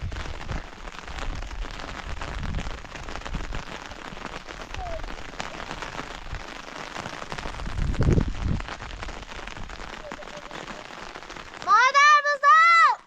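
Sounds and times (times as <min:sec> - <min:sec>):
wind buffeting microphone: 0:00.0 - 0:11.7
rain pattering: 0:00.0 - 0:13.0.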